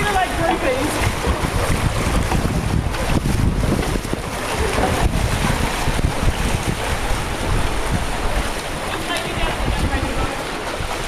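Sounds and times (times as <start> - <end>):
water noise: 0.0 - 11.0
wind buffeting microphone: 0.0 - 11.0.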